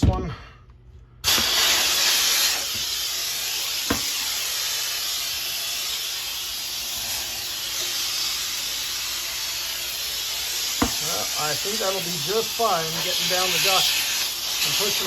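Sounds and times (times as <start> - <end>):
compressed air hissing: 1.2 - 15.0.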